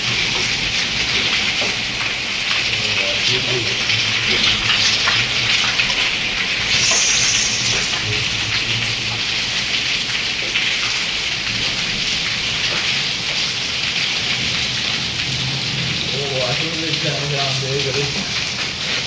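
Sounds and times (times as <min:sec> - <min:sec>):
rain and hail on concrete: 0:00.0 - 0:19.0.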